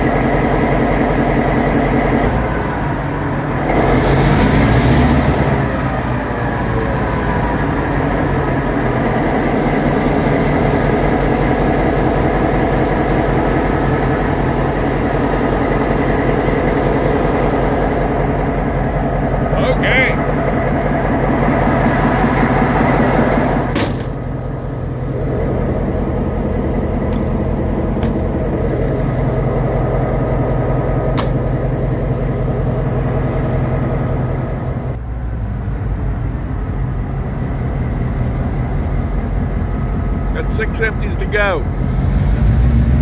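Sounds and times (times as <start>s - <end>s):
diesel locomotive engine: 0.0s - 43.0s.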